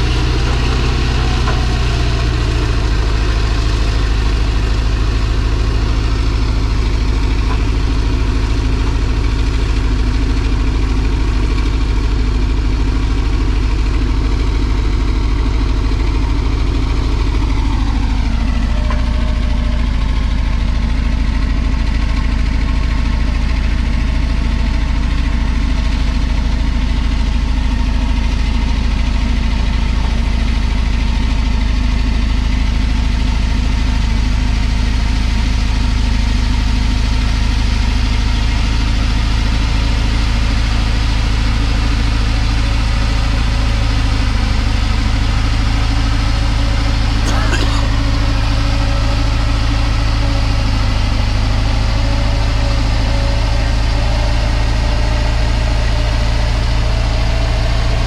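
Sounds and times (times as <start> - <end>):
bulldozer diesel engine running: 0.0 - 58.0
bulldozer pushing dirt: 0.0 - 58.0.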